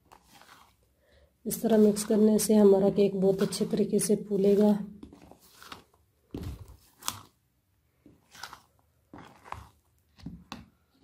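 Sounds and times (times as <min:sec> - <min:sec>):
spoon stirring thick batter: 0:00.0 - 0:11.0.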